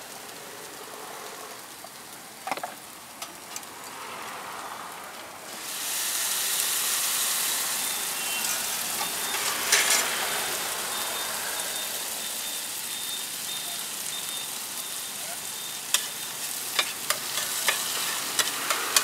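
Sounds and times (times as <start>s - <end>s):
food sizzling in a hot pan: 0.0s - 19.0s.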